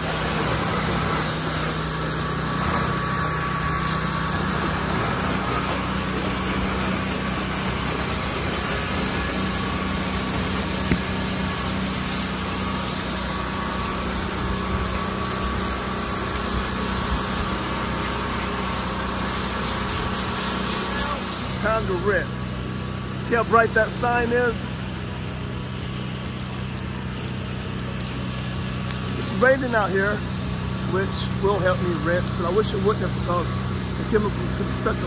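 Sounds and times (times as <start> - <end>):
pressure washer engine running: 0.0 - 35.0
spraying water hiss: 0.0 - 35.0.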